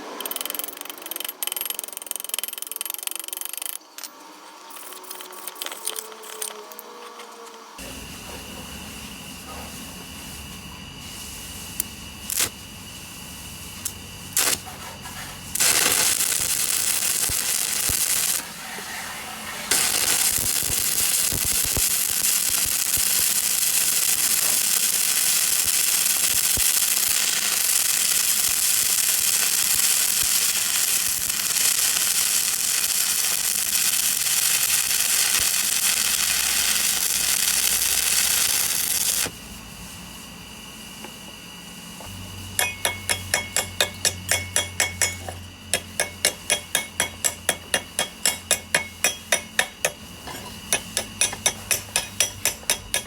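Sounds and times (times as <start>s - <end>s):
welding arc crackling and hissing: 7.8s - 53.0s.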